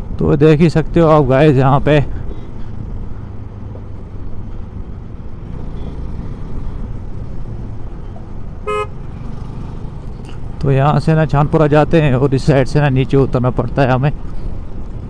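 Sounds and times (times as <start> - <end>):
motorcycle engine rumble: 0.0 - 15.0
wind and road noise: 0.0 - 15.0.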